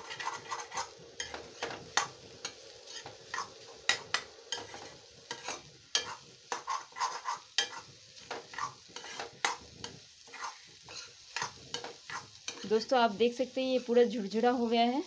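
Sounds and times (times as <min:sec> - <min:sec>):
metal spatula scraping a pan: 0:00.0 - 0:13.0
faint frying sizzle: 0:00.0 - 0:15.0.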